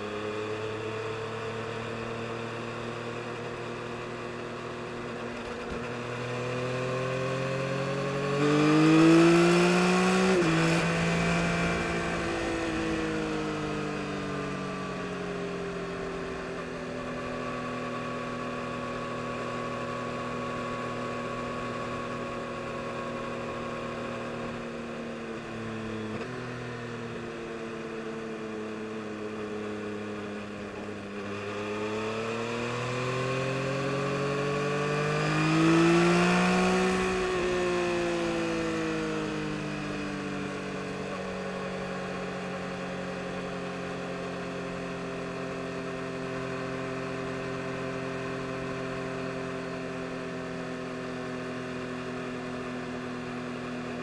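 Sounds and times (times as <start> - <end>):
motorcycle engine revving: 0.1 - 27.0, 29.3 - 53.2.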